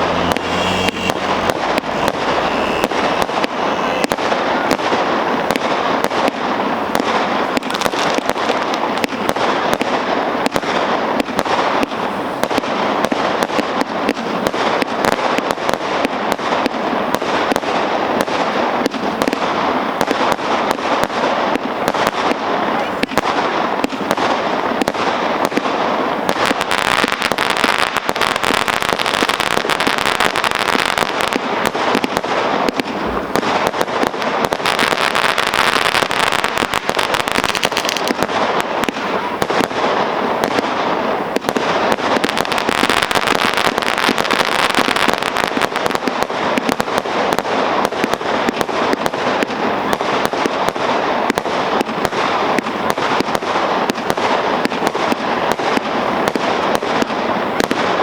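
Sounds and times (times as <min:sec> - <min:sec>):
firework shots in rapid succession: 0:00.0 - 0:58.0.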